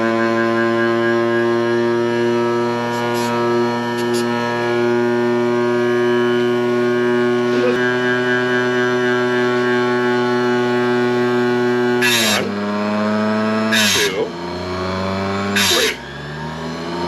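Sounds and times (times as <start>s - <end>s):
electric motor droning hum: 0.0s - 16.8s.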